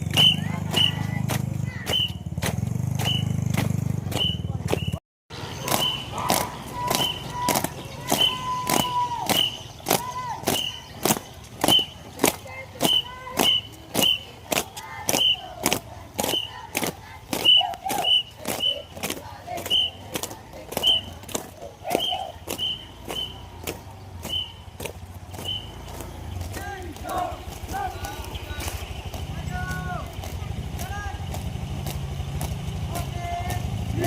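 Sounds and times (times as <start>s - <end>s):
percussive marching beat: 0.0s - 34.0s
people shouting: 0.1s - 34.0s.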